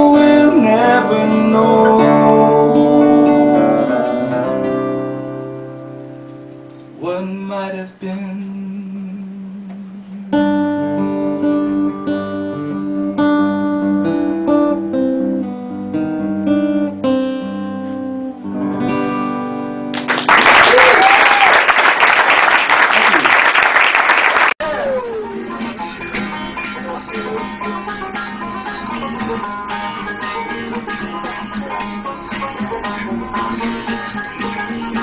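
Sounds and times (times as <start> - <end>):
acoustic guitars picking: 0.0 - 20.2, 24.6 - 35.0.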